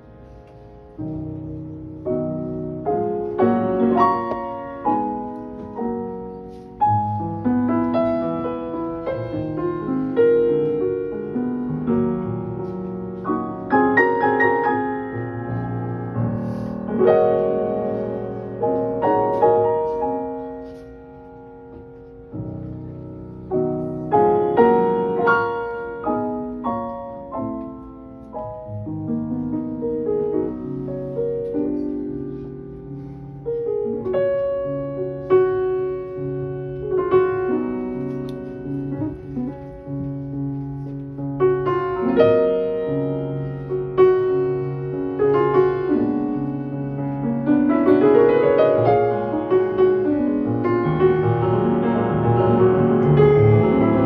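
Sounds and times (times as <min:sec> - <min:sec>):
slow jazz piano ballad: 0:00.0 - 0:54.0.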